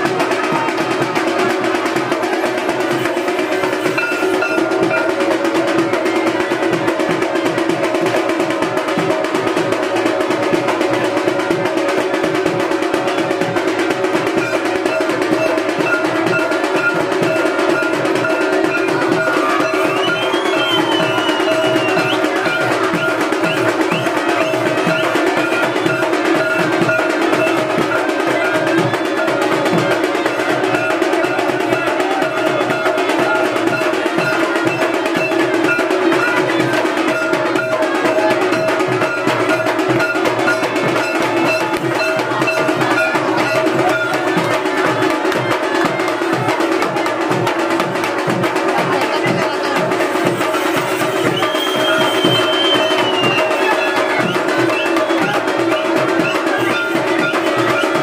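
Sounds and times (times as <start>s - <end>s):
fast drumming and percussion: 0.0s - 58.0s.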